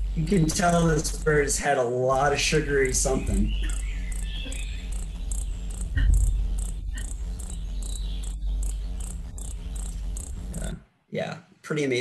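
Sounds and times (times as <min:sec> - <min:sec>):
hummingbird chip notes: 0:00.0 - 0:10.8.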